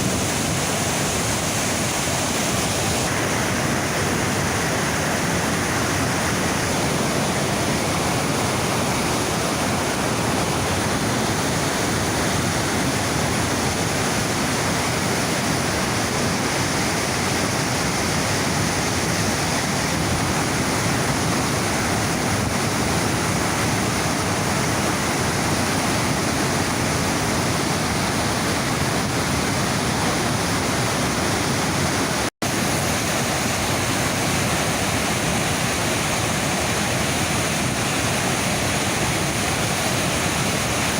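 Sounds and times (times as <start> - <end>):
rapids roaring: 0.0 - 40.9.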